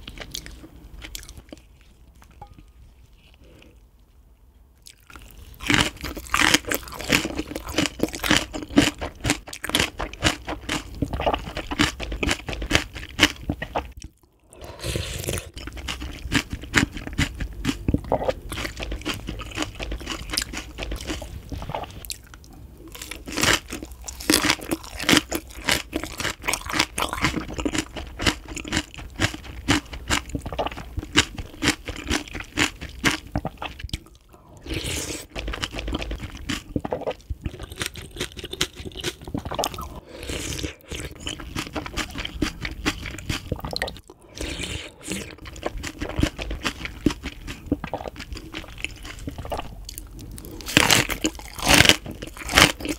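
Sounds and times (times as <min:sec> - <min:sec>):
crisp crunching and chewing: 0:04.9 - 0:14.3, 0:15.4 - 0:34.3, 0:34.9 - 0:44.2, 0:44.8 - 0:52.9.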